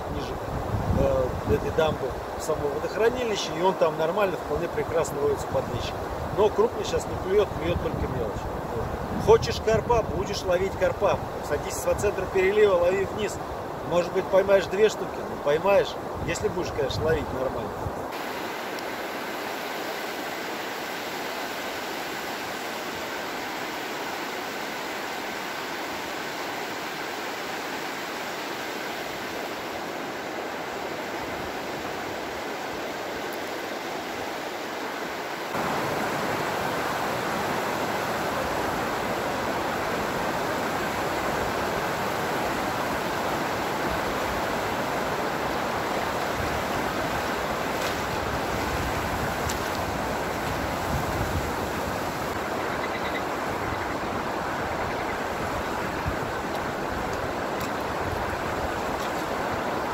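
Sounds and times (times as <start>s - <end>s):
water rushing over weir: 0.0s - 59.9s.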